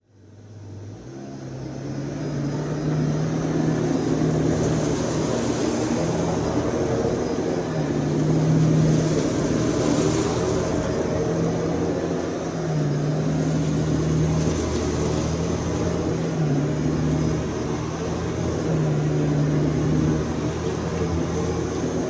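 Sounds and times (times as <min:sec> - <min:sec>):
vacuum cleaner running: 0:00.9 - 0:22.0.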